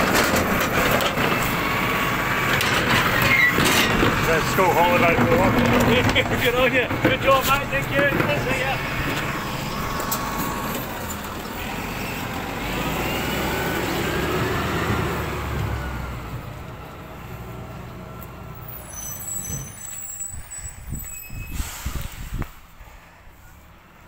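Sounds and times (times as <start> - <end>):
truck engine pulling away: 0.0 - 22.4
truck whine: 0.0 - 24.0.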